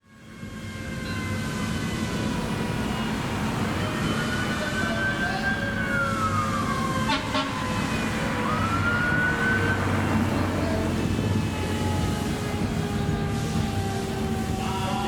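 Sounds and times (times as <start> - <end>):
emergency siren wailing: 0.0 - 15.0
low engine rumble: 0.6 - 15.0.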